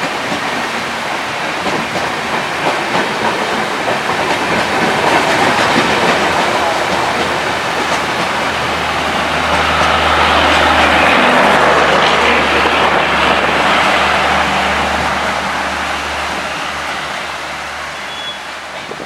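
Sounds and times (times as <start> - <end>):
heavy rain: 0.0 - 19.0
train rumbling past: 0.0 - 19.0.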